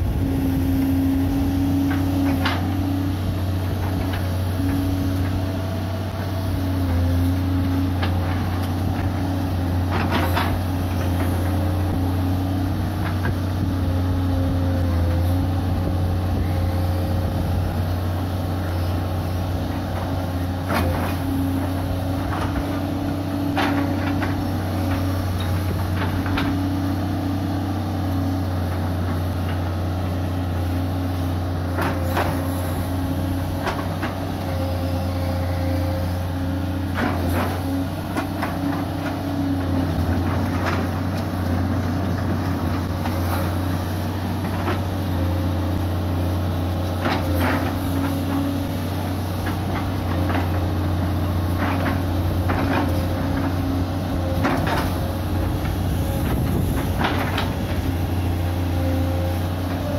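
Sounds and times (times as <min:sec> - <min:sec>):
excavator engine hum: 0:00.0 - 0:59.9.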